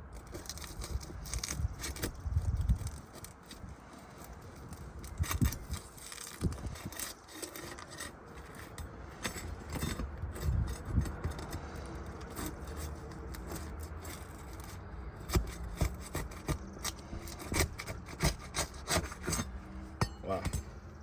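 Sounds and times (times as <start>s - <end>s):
pry tool scraping shingles: 0.0s - 20.9s.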